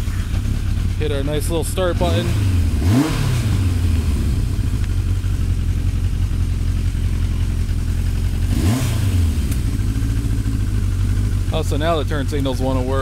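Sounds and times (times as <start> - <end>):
engine throttle blip: 0.0 - 12.9
motorcycle engine idling: 0.0 - 13.0.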